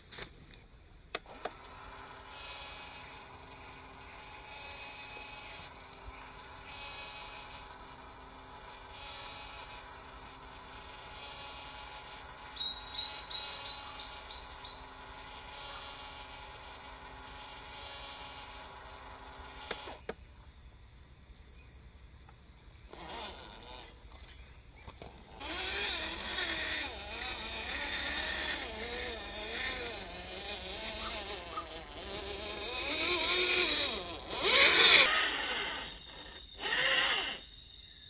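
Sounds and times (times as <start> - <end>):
electric motor and gearbox whining: 0.0 - 38.0.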